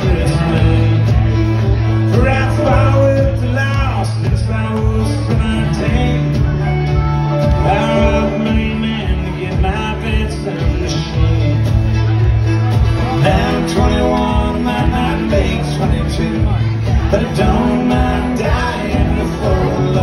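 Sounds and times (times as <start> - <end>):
steady drum beat: 0.0 - 20.0
strummed guitars: 0.0 - 20.0.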